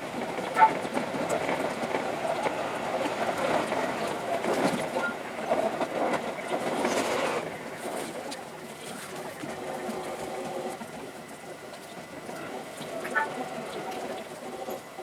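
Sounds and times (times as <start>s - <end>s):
electric train on rails: 0.0s - 15.0s.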